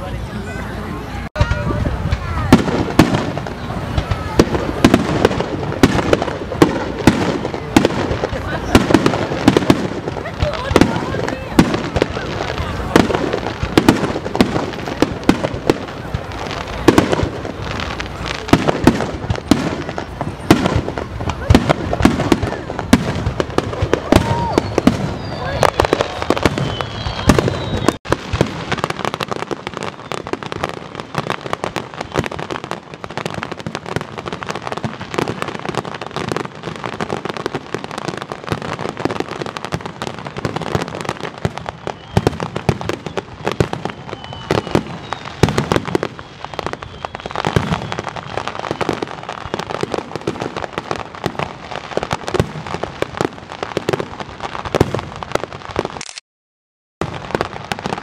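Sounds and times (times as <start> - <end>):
fireworks bursting and crackling: 0.0 - 56.2, 57.0 - 58.0
firework whistles: 1.4 - 54.1.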